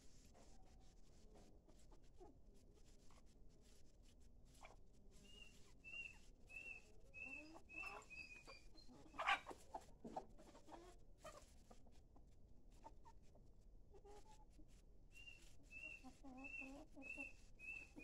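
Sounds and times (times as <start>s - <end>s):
chickens clucking softly: 0.1s - 18.0s.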